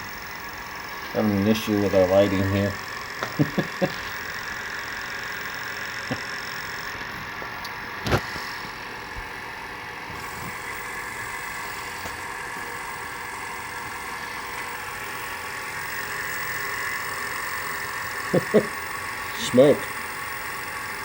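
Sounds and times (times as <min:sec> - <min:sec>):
milling machine humming and whining: 0:00.0 - 0:21.0.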